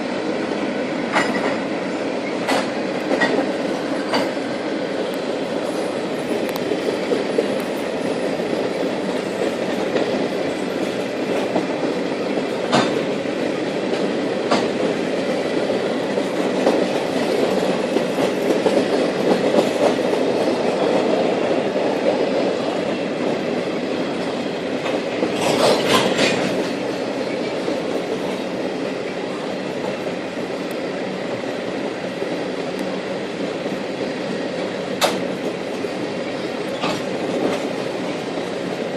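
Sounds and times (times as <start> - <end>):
train cars rumbling on rails: 0.0 - 38.9.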